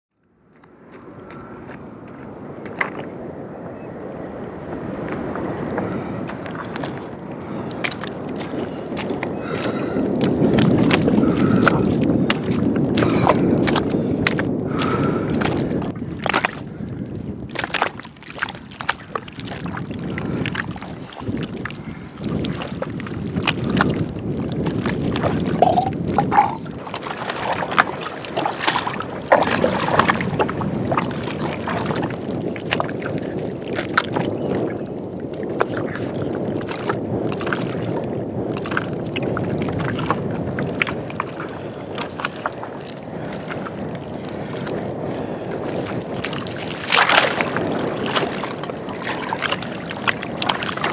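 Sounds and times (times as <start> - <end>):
wind rumble on microphone: 0.2 - 50.9
wet mud squelching: 6.2 - 34.8, 35.5 - 50.9.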